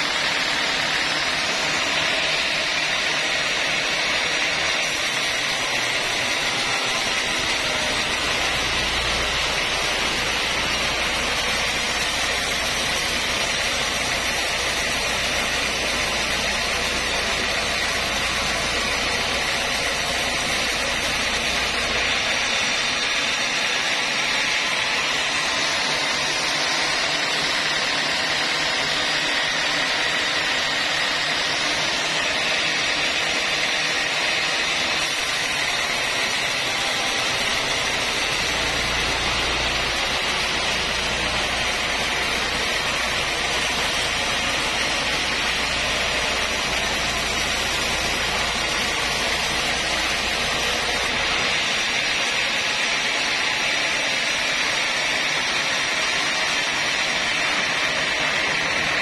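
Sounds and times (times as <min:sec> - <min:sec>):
band saw cutting timber: 0:00.0 - 0:59.0.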